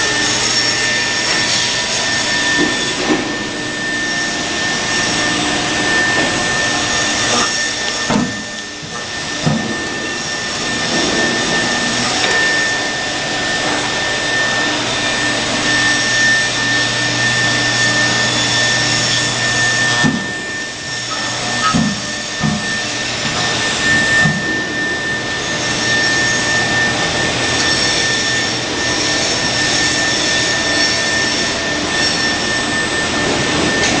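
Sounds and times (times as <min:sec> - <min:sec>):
router spindle whine: 0:00.0 - 0:34.0.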